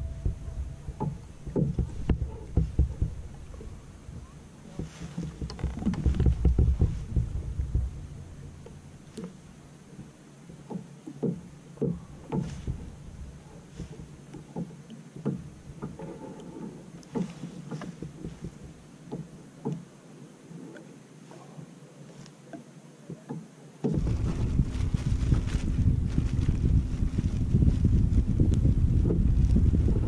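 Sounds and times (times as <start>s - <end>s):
water lapping against a kayak hull: 0.0s - 30.0s.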